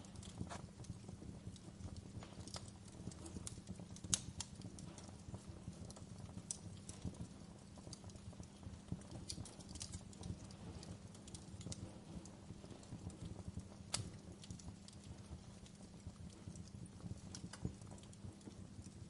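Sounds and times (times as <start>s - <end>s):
log fire crackling: 0.0s - 19.0s.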